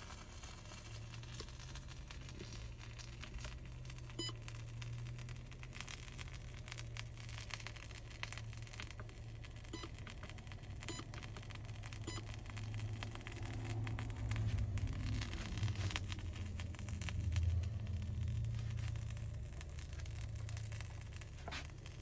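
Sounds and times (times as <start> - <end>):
pizza sizzling in a pan: 0.0 - 22.0
low hum: 0.1 - 22.0.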